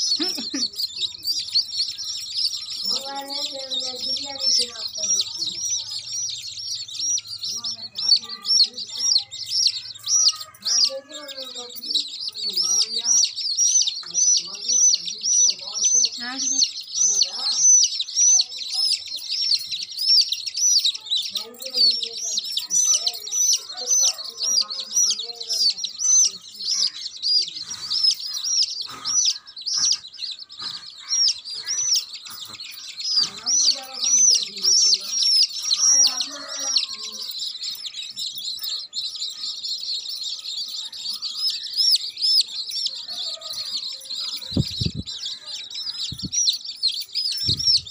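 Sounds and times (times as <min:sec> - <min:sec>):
chicks peeping rapidly: 0:00.0 - 0:47.9.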